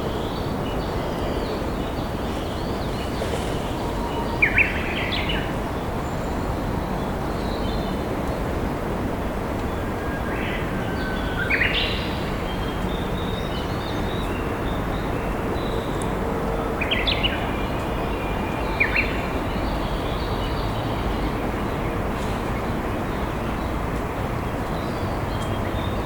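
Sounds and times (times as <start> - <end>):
wild birds singing: 0.2 - 8.1, 9.2 - 26.0.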